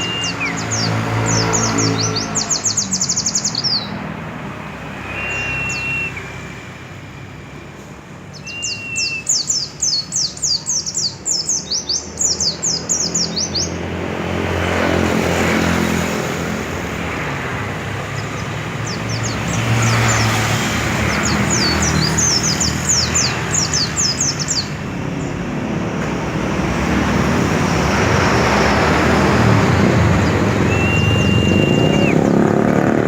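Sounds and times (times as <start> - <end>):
songbird singing: 0.0 - 7.4, 8.1 - 33.0
broad rushing noise: 0.0 - 11.3, 12.2 - 33.0.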